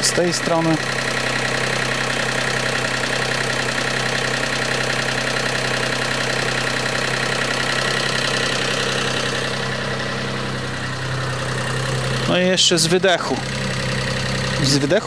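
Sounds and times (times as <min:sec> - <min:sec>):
generator engine droning: 0:00.0 - 0:15.0.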